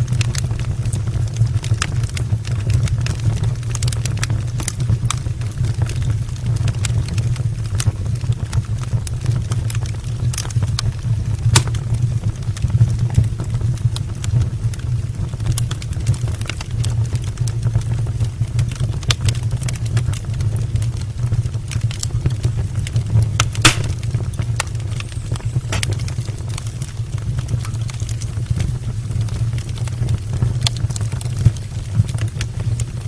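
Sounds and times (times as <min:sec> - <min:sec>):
fire flames rumbling: 0:00.0 - 0:33.0
logs crackling and popping: 0:00.0 - 0:33.0.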